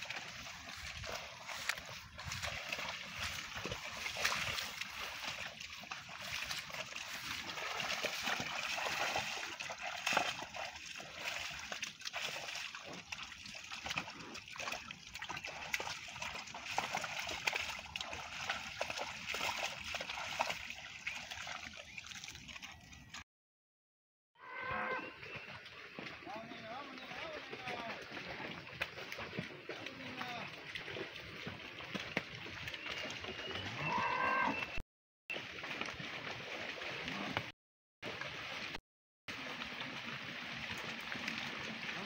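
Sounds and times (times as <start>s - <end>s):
hooves splashing through muddy water: 0.0s - 23.2s, 25.1s - 37.5s, 38.1s - 42.0s.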